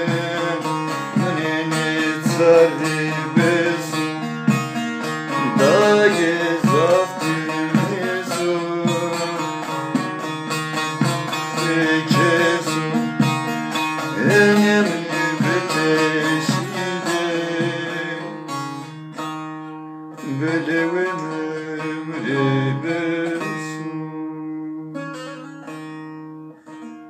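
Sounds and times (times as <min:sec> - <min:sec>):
plucked string instrument: 0:00.0 - 0:27.0.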